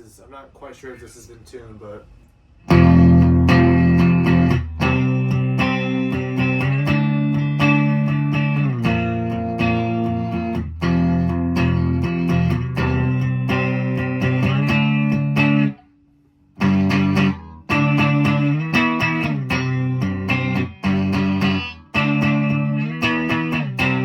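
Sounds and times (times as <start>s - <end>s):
electric guitar strumming chords: 2.7s - 15.8s, 16.6s - 24.0s.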